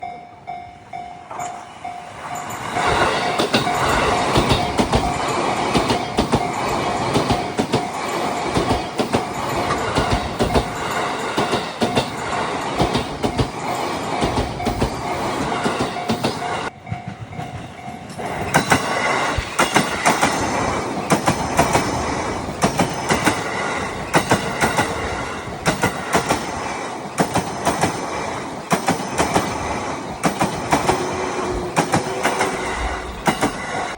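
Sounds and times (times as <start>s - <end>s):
electric trains passing: 0.0s - 33.9s
level crossing warning bell: 0.0s - 33.9s
wheels clacking over rail joints: 0.4s - 33.9s.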